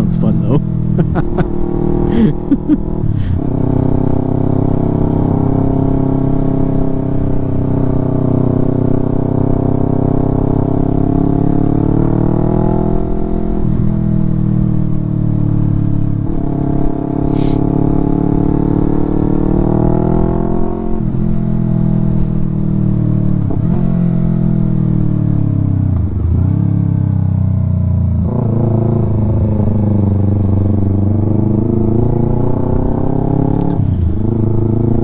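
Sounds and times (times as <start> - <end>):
motorcycle engine revving: 0.5 - 21.4, 23.4 - 35.0.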